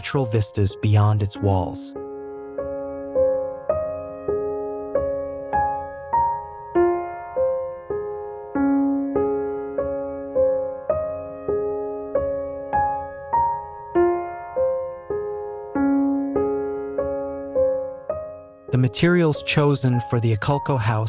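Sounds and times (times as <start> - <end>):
slow solo piano notes: 1.4 - 18.8.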